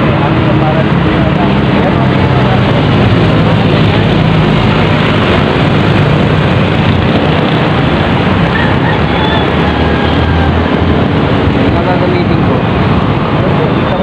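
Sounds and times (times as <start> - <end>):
low engine hum: 0.0 - 14.0
traffic passing on wet road: 0.0 - 14.0.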